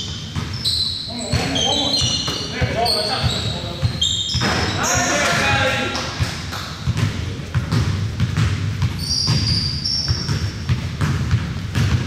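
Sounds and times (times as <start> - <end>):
sneaker squeaks: 0.0 - 5.6, 6.2 - 12.0
basketball bouncing: 0.0 - 12.0.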